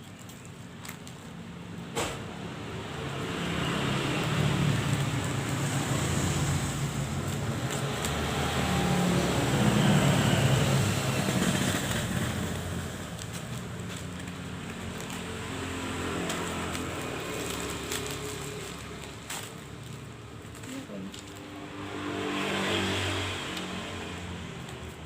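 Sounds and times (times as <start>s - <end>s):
vehicle passing by: 2.2s - 25.0s.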